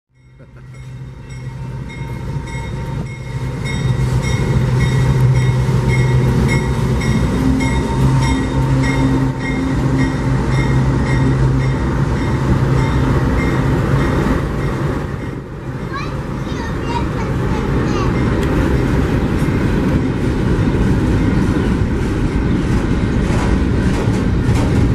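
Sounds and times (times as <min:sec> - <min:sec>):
locomotive bell ringing: 0:00.1 - 0:21.9
diesel locomotive engines droning: 0:00.1 - 0:24.9.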